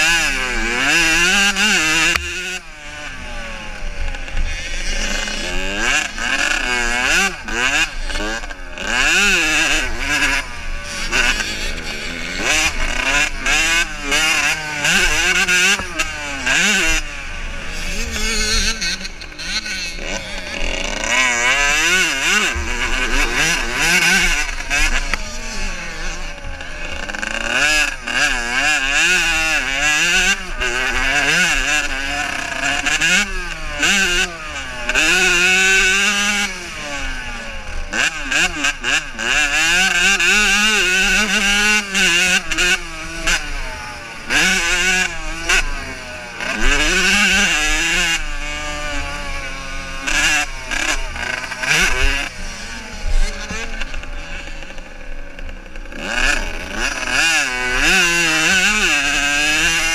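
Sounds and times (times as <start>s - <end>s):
motocross bikes revving: 0.0s - 59.9s.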